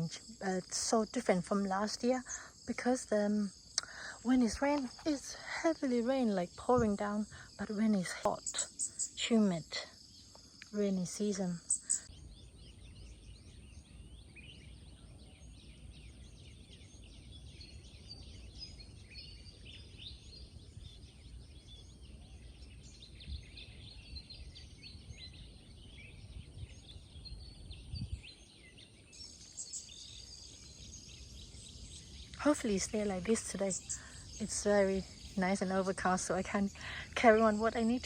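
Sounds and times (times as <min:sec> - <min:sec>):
birds chirping: 0:00.0 - 0:38.0
high insect drone: 0:00.0 - 0:38.0.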